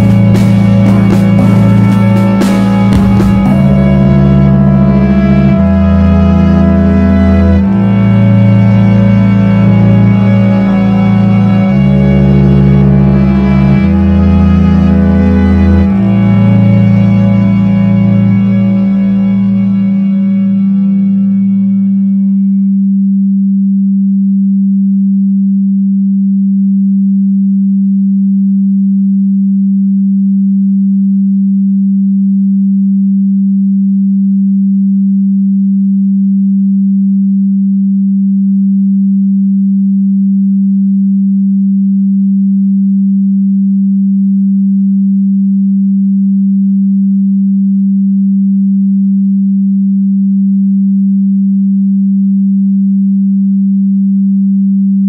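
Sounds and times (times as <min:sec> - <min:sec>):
low steady sine tone: 0:00.0 - 0:55.0.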